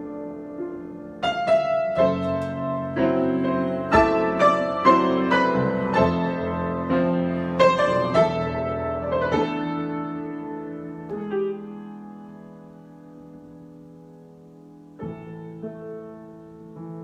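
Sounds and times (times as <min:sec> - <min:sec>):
solo piano: 0:00.0 - 0:17.0.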